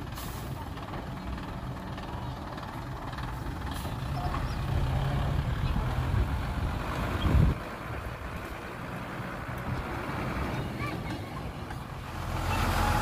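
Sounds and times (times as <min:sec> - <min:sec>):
diesel engine rumbling under load: 0:00.0 - 0:13.0.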